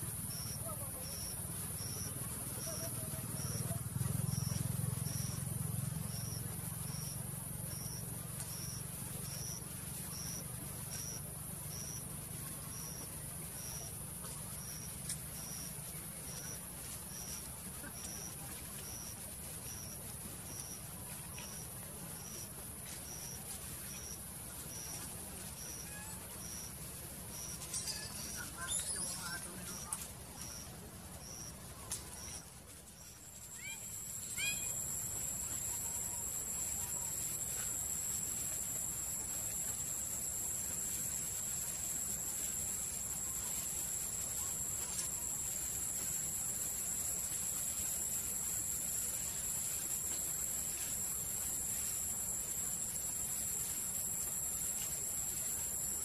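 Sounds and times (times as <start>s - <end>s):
insect chorus: 0.0s - 56.0s
steady high buzz: 0.0s - 56.0s.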